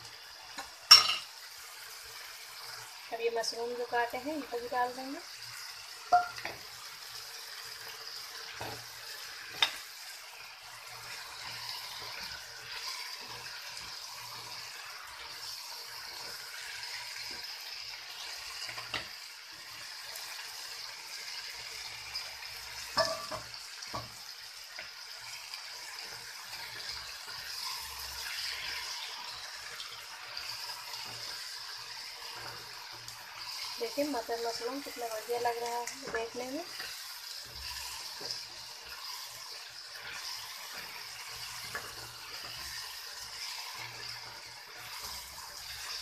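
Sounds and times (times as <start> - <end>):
gravy sizzling in a pan: 0.0 - 46.0.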